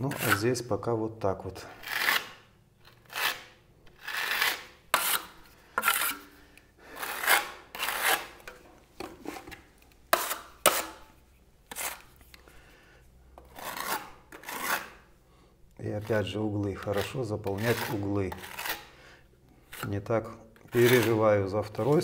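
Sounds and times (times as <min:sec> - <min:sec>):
spatula rasping plaster: 0:00.0 - 0:00.7, 0:01.7 - 0:08.5, 0:09.2 - 0:12.4, 0:13.4 - 0:15.1, 0:15.9 - 0:22.0.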